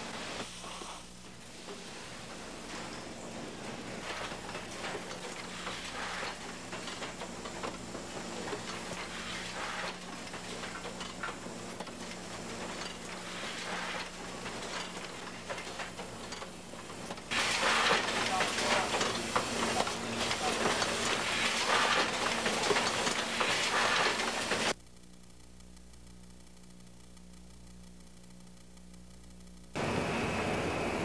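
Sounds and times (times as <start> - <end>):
factory machinery humming: 0.0 - 24.8, 29.8 - 31.0
hissing crackling noise: 0.0 - 31.0
light ticks and clatter: 3.6 - 29.8.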